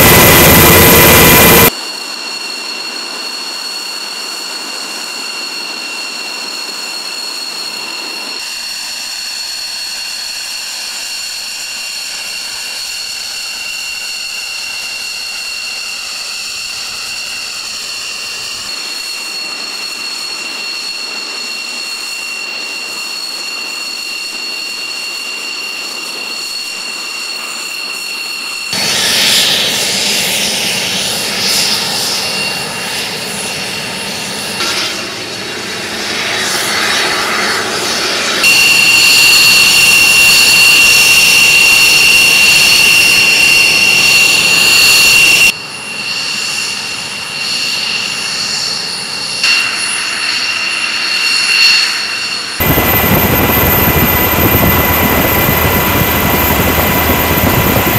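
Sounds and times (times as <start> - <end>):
jet engine whine: 0.0 - 57.9.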